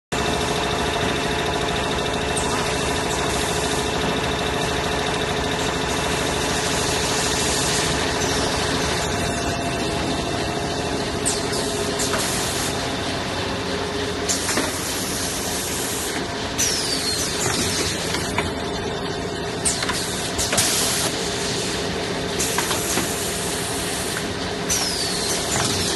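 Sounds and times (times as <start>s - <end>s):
packing machine humming: 0.2s - 25.9s.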